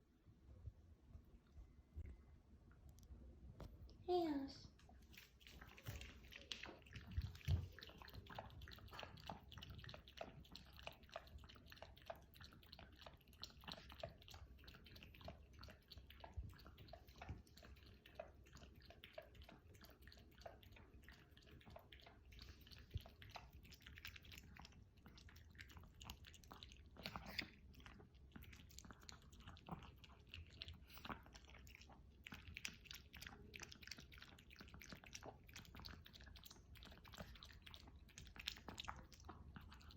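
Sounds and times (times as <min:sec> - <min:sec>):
dog chewing food: 0:05.1 - 0:39.9.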